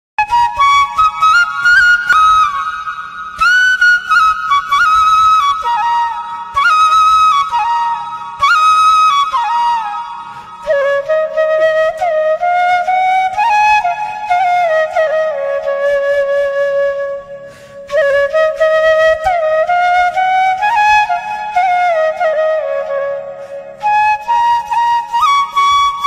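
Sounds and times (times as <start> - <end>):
flute playing slow melody: 0.2 - 26.0.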